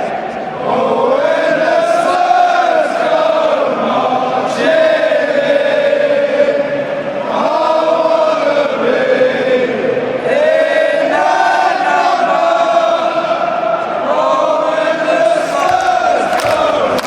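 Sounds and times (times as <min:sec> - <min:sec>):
football crowd chanting: 0:00.0 - 0:17.0.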